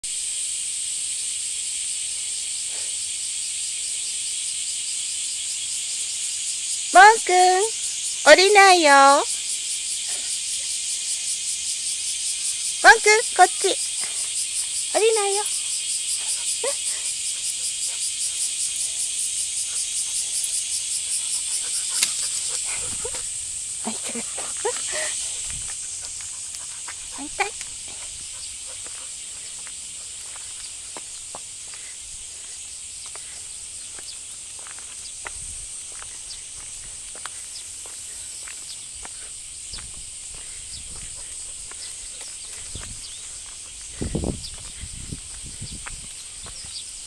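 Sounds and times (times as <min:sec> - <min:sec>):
insects shrilling: 0:00.0 - 0:47.0.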